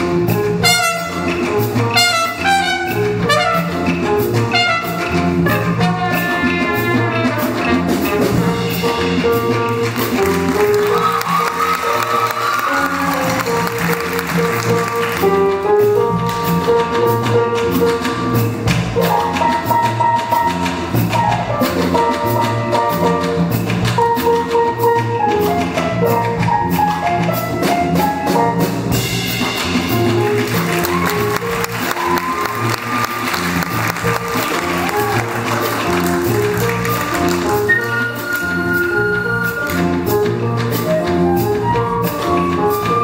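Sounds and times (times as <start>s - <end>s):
drum kit cymbal beat: 0.0s - 10.9s, 14.3s - 42.9s
jazz band playing: 0.0s - 43.0s.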